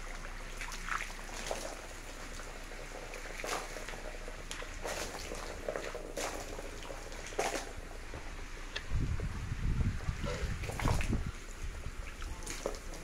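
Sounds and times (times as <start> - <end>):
water splashing on cement: 0.0 - 8.8, 10.2 - 13.0.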